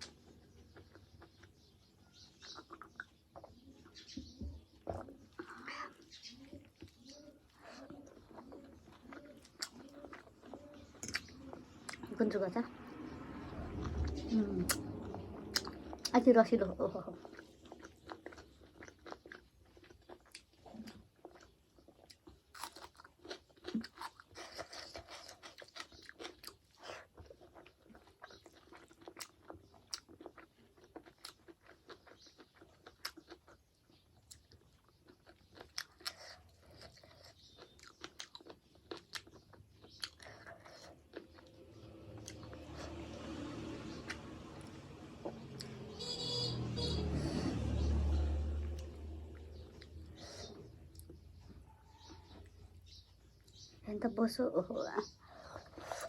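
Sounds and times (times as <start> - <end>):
person chewing food: 0.0 - 12.2, 13.0 - 16.1, 17.1 - 53.8, 54.9 - 56.0.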